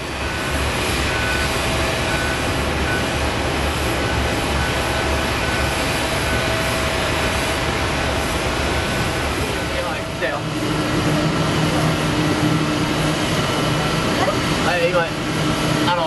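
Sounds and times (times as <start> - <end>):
faint engine whine: 0.0 - 16.0
jet engine rushing roar: 0.0 - 16.0.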